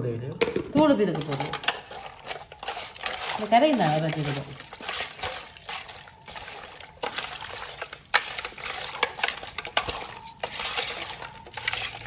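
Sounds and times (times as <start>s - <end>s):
meat clicking against metal pot: 1.1s - 12.0s
wet squelching of meat: 1.2s - 12.0s.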